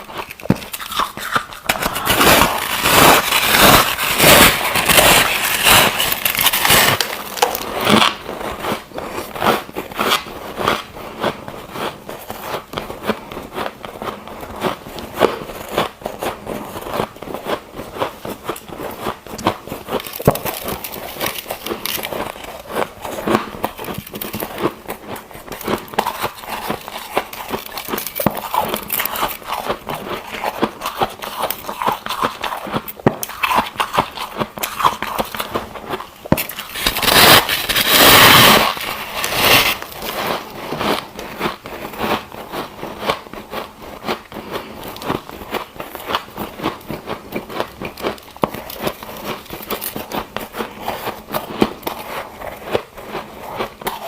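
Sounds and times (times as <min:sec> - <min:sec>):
ice being crunched and chewed: 0:00.0 - 0:54.0.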